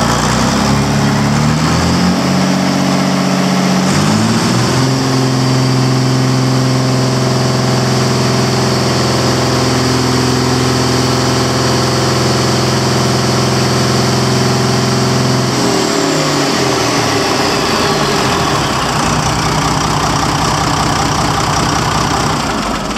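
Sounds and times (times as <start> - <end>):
turbo diesel engine revving: 0.0 - 22.9.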